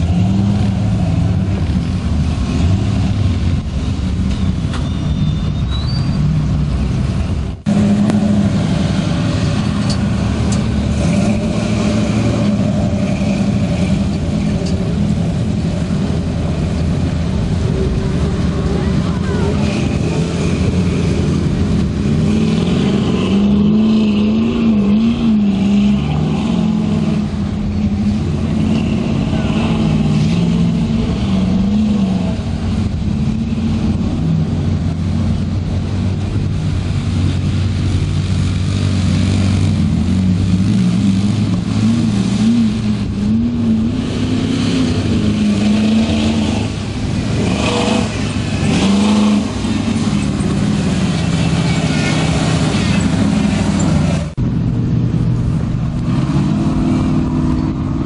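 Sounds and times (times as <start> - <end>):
engine revving: 0.0 - 58.0
tyres churning through mud: 0.0 - 58.0.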